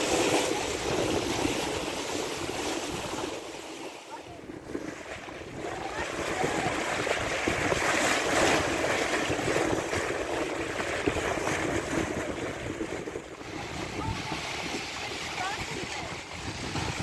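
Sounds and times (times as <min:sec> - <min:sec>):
water splashing along boat hull: 0:00.0 - 0:17.0
wind buffeting microphone: 0:00.0 - 0:17.0.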